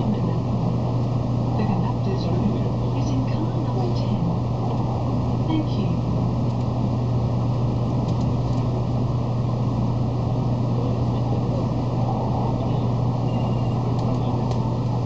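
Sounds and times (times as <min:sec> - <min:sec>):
train cabin hum and rumble: 0:00.0 - 0:15.0.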